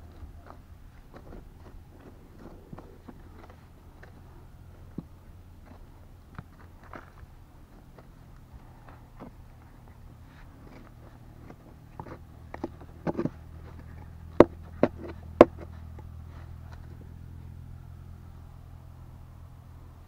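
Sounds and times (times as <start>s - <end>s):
dirt and gravel scraping: 0.0s - 17.5s.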